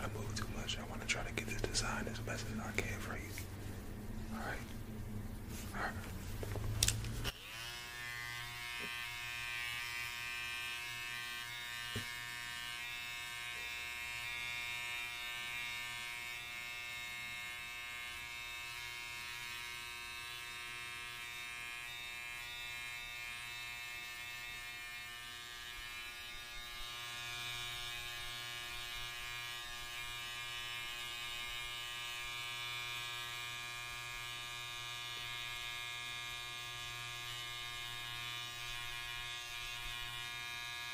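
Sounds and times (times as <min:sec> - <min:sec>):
hair clippers buzzing: 0:06.8 - 0:40.9.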